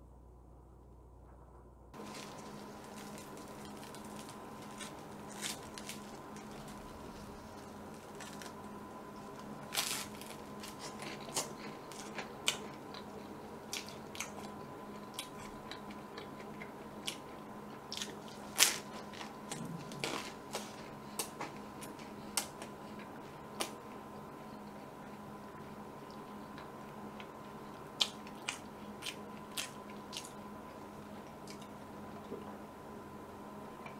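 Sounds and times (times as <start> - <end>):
faint steady hum: 0.0 - 33.9
biting and chewing bun: 2.0 - 25.2, 26.0 - 31.8.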